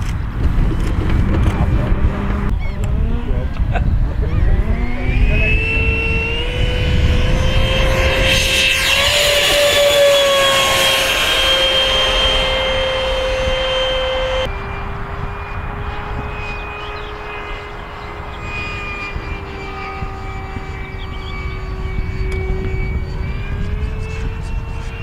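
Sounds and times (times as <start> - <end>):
electric ducted fan whining: 0.0 - 25.0.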